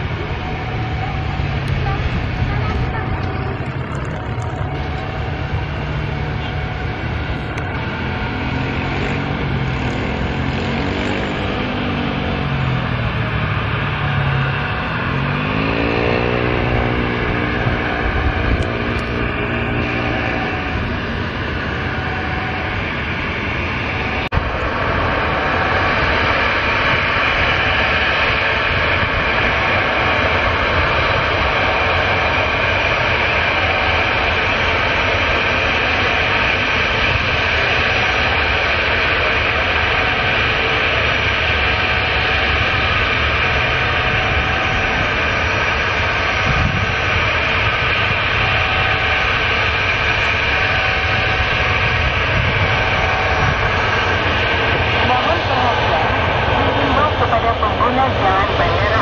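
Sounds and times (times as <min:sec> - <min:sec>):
high jet whine: 0:00.0 - 0:59.0
jet engines running: 0:00.0 - 0:59.0.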